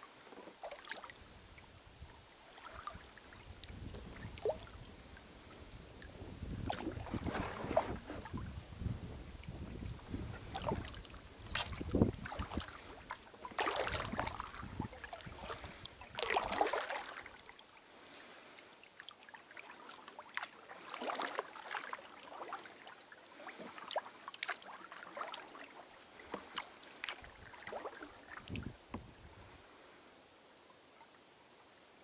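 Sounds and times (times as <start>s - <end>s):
kayak paddle splashing water: 0.0s - 1.8s, 2.4s - 8.6s, 9.4s - 29.1s.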